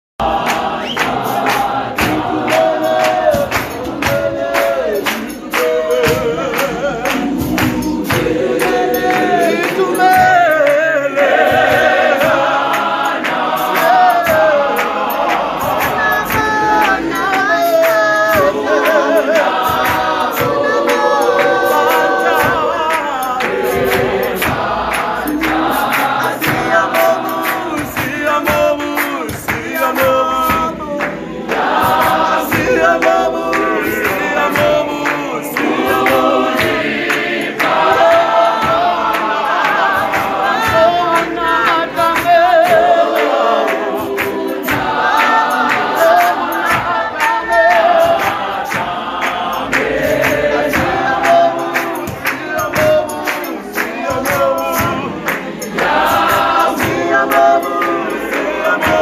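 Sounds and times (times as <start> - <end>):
choir singing in harmony: 0.2 - 59.0
hand claps: 0.2 - 59.0.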